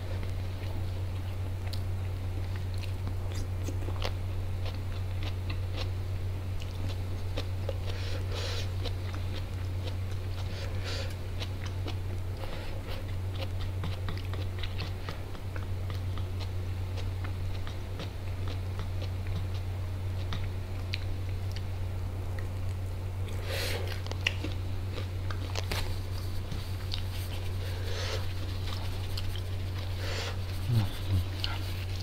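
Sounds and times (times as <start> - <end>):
steady low hum: 0.0 - 32.0
chewing with wet mouth clicks: 0.6 - 5.9, 8.8 - 21.7, 22.3 - 32.0.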